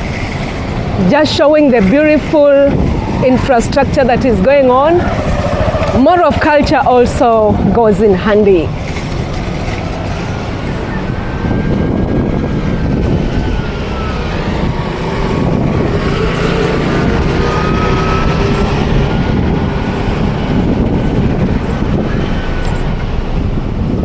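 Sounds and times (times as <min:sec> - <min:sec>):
vehicle rumble: 0:00.0 - 0:24.0.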